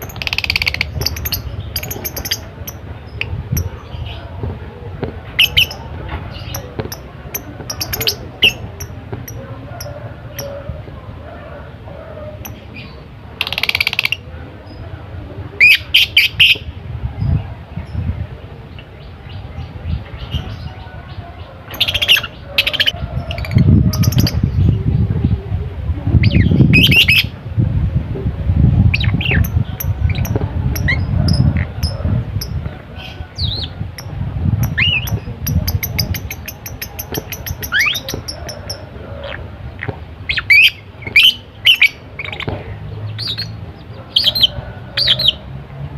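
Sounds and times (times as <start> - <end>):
low rumbling noise: 0.0 - 13.5, 14.2 - 45.9.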